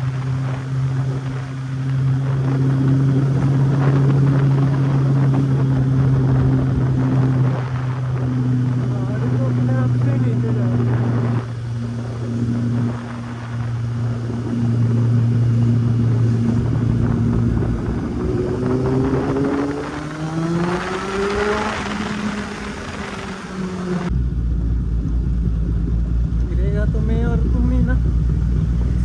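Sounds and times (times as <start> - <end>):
motorcycle engine accelerating: 0.0 - 29.0
wind noise: 0.0 - 29.0.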